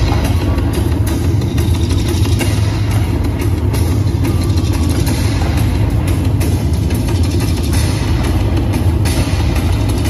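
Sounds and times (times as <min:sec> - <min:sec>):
bass-heavy music over loudspeakers: 0:00.0 - 0:10.0.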